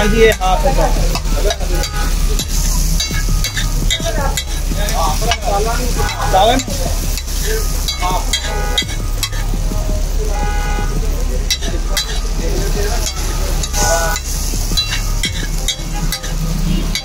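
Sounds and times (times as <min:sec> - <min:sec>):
gravy sizzling: 0:00.0 - 0:17.0
metal spatula scraping griddle: 0:00.8 - 0:09.6, 0:11.5 - 0:17.0.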